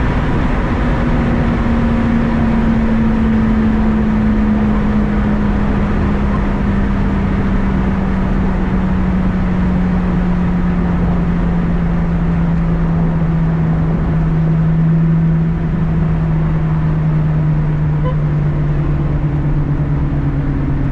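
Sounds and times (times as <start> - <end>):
car engine droning: 0.0 - 20.9.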